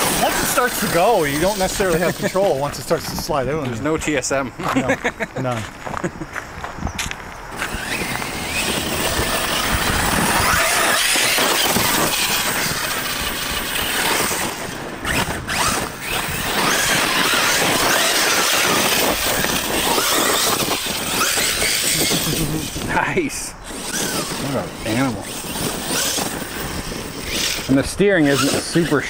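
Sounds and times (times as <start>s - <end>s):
electric motor whining: 0.0s - 3.2s, 7.5s - 29.0s
tyres spinning on dirt: 0.0s - 29.0s.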